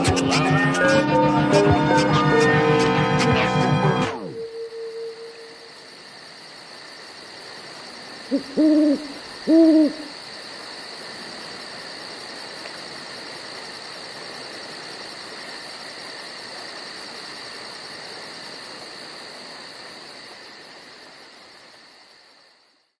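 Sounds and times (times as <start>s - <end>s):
high steady insect trill: 2.6s - 23.0s
night insects chirping: 3.4s - 23.0s.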